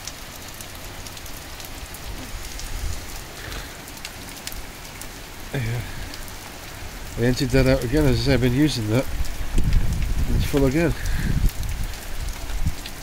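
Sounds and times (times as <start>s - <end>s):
heavy rain hissing: 0.0s - 13.0s
raindrop taps: 0.0s - 13.0s.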